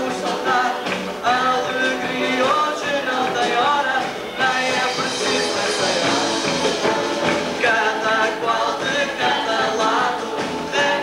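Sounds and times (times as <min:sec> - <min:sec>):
person singing over instruments: 0:00.0 - 0:11.0.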